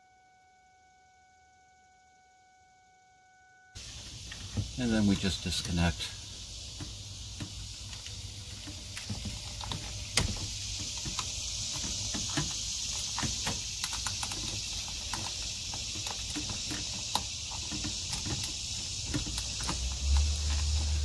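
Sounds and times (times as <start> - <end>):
steady high hiss: 3.8 - 21.0.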